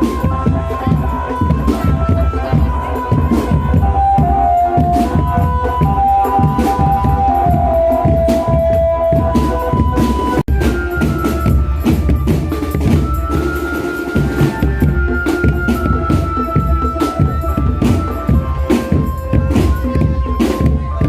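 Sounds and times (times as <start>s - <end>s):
drums beating: 0.0s - 21.0s
sustained melody line: 0.0s - 21.0s.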